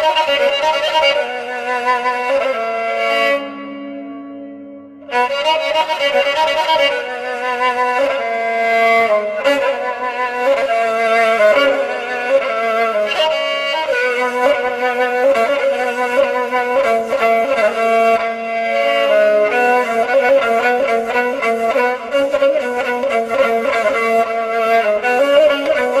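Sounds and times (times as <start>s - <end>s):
violin melody: 0.0s - 26.0s.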